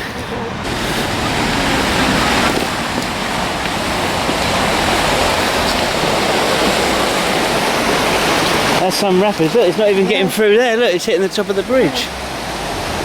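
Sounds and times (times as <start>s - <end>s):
river water rushing through rapids: 0.6s - 13.0s.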